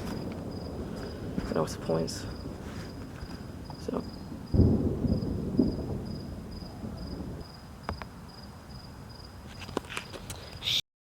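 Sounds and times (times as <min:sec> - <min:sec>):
distant thunder rumble: 0:00.0 - 0:09.4
cricket chirping: 0:00.0 - 0:10.8.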